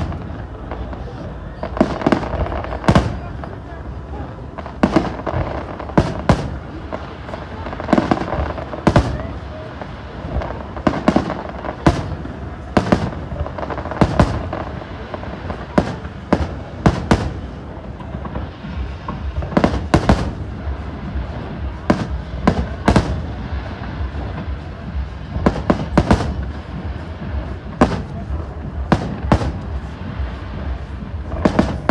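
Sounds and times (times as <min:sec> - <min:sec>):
crowd rumble: 0:00.0 - 0:31.9
fireworks bursting with sharp bangs: 0:00.0 - 0:31.9.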